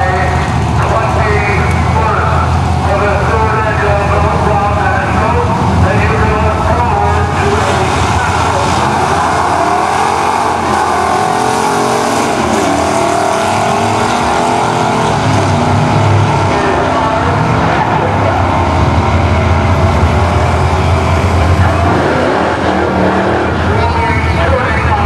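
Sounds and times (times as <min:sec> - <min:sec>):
drag racing cars accelerating: 0:00.0 - 0:25.0.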